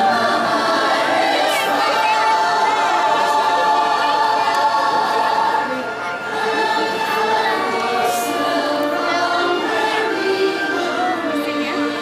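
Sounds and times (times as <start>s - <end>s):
choir singing with accompaniment: 0.0s - 12.0s.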